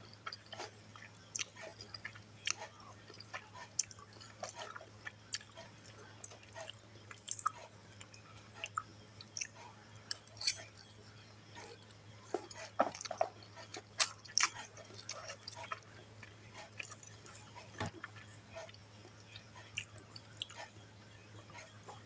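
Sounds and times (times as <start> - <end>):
chewing with mouth clicks: 0.0 - 22.0
faint low hum: 0.0 - 22.0.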